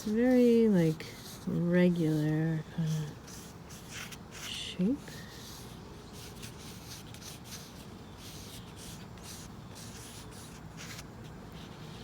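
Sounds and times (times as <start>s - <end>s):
oil pastel scratching on paper: 0.0s - 12.0s.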